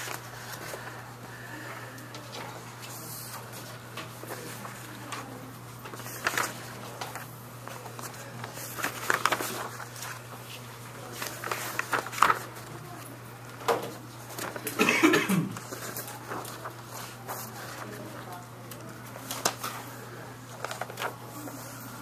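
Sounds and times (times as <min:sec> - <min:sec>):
faint voices: 0:00.0 - 0:22.0
low electrical hum: 0:00.0 - 0:22.0.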